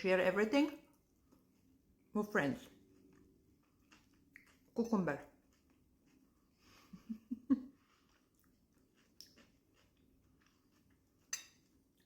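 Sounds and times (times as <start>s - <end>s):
faint chewing of food: 0.7s - 12.0s.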